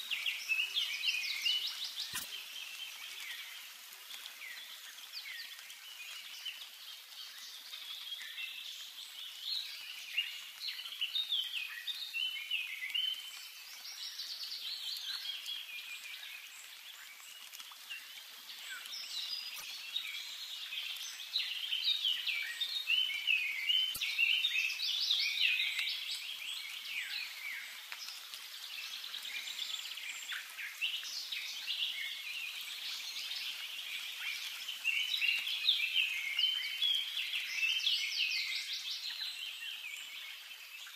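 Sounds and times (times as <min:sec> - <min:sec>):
birds singing chorus: 0:00.0 - 0:40.9.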